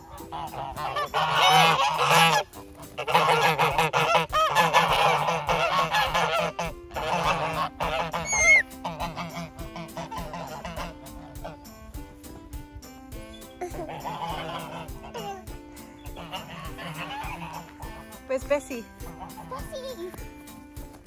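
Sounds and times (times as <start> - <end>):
geese honking: 0.0 - 11.9, 13.2 - 18.3, 19.0 - 19.6.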